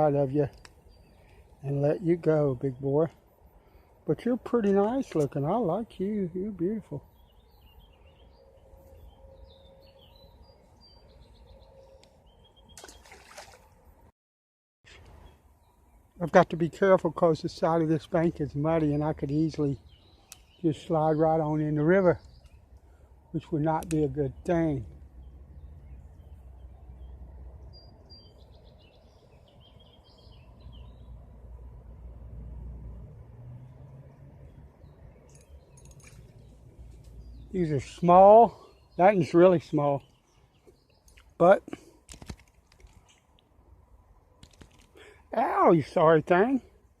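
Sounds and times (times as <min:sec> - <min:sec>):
songbird chirping: 0:00.0 - 0:14.1, 0:14.9 - 0:47.0.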